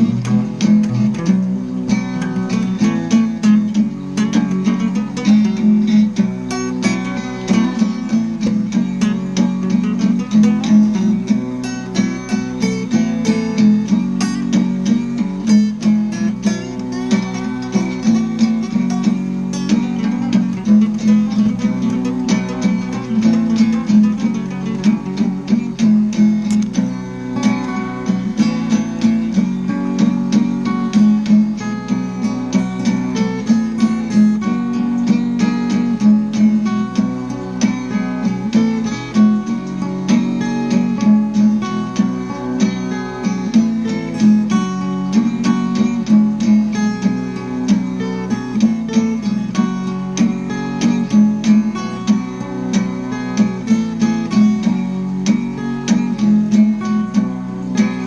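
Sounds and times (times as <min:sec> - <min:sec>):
acoustic guitar plucked and strummed: 0:00.0 - 0:58.0.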